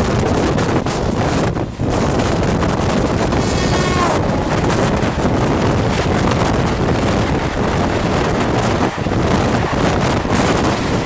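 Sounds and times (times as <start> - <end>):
freight train passing: 0.0 - 11.0
train running noise: 0.0 - 11.0
wind rush at train window: 0.0 - 11.0.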